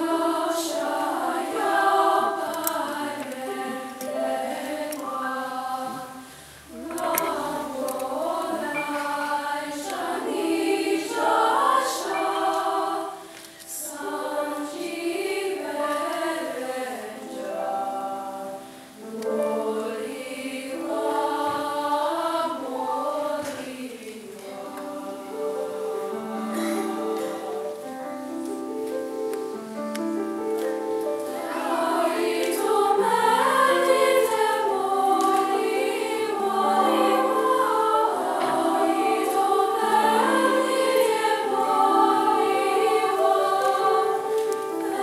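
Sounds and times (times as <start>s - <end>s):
women's choir singing: 0.0s - 28.4s, 30.1s - 45.0s.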